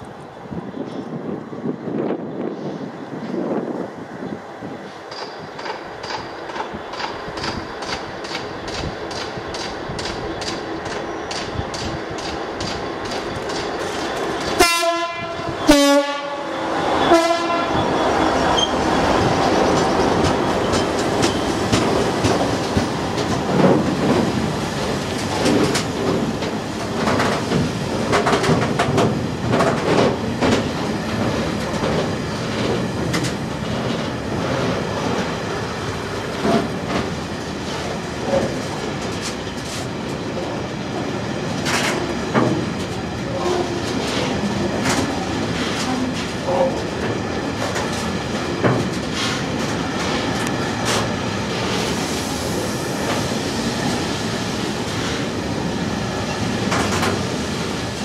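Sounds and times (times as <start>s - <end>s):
train wagons rumbling on rails: 0.0s - 58.0s.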